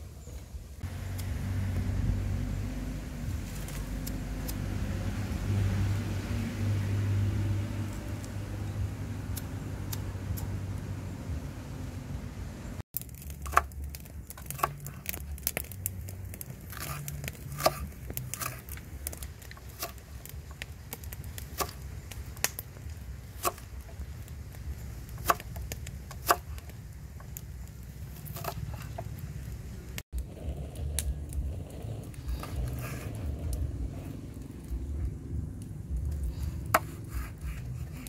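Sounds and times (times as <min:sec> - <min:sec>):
steady low rumble: 0:00.6 - 0:38.0.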